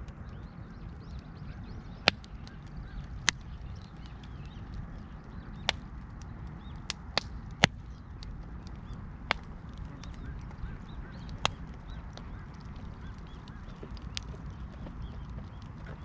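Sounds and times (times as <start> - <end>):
fire popping: 0.0 - 16.0
low steady rumble: 0.0 - 16.0
wood fire crackling: 0.0 - 16.0.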